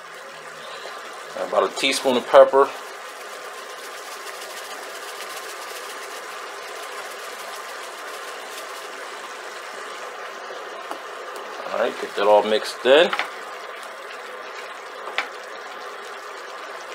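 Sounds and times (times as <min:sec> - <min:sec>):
sauce bubbling in a pan: 0:00.0 - 0:16.9.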